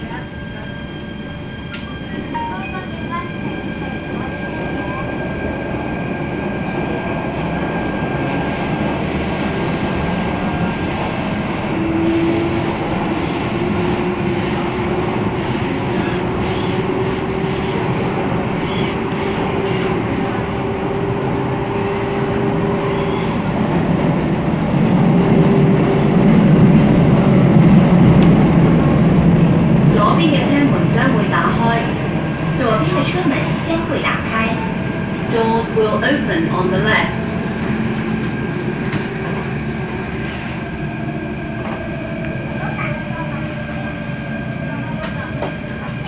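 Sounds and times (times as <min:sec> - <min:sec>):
train wheels rumbling on track: 0:00.0 - 0:46.0.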